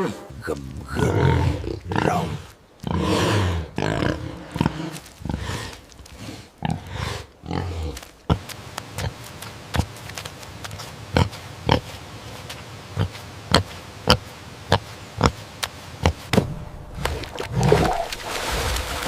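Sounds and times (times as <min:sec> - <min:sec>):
animal snorting and grunting: 0:00.0 - 0:12.0, 0:12.9 - 0:16.3, 0:16.9 - 0:18.3.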